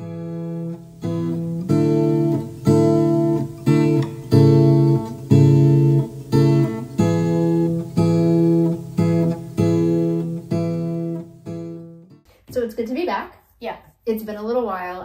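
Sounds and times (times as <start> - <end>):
acoustic guitar strumming chords: 0.0 - 12.2.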